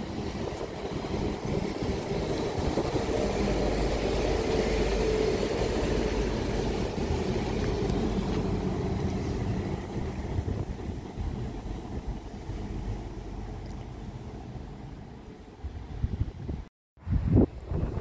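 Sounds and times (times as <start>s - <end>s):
train wheels rumbling: 0.0s - 15.1s
diesel train engine hum: 0.0s - 16.1s.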